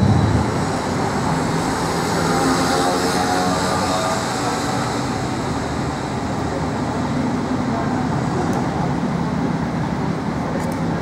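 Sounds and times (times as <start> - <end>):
road noise: 0.0 - 11.0
tram rumbling: 0.0 - 11.0.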